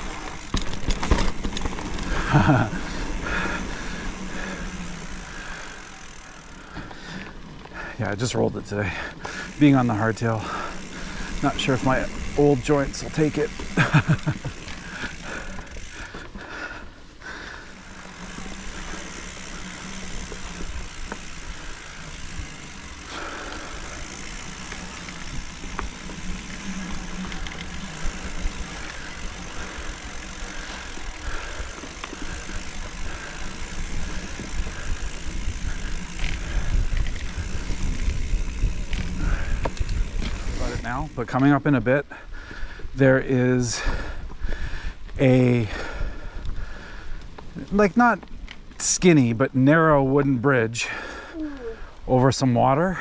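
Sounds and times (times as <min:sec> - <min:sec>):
bike rattling and clicking: 0:00.0 - 0:53.0
bike tyres rolling on dirt: 0:00.0 - 0:53.0.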